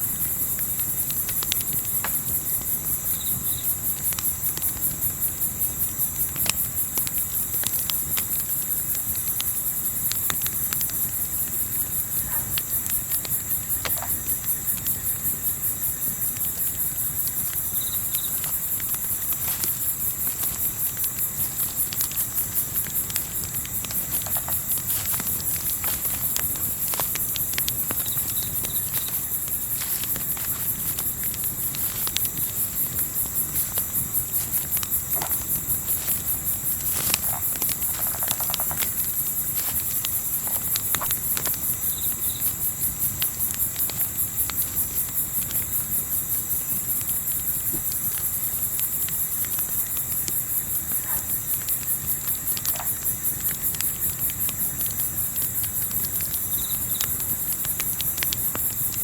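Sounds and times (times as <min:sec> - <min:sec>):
campfire crackling: 0:00.0 - 0:59.0
crickets chirping: 0:00.0 - 0:59.0.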